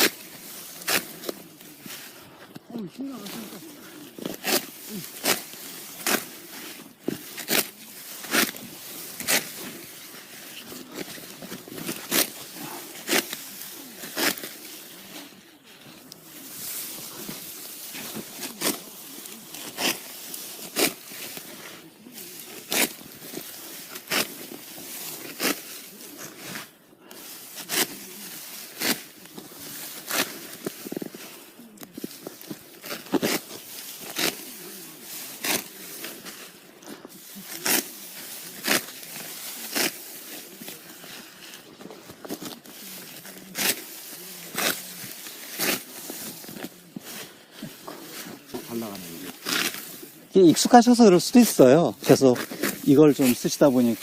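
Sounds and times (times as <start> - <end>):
sickle cutting rice stalks: 0.0 - 2.1, 2.7 - 54.0.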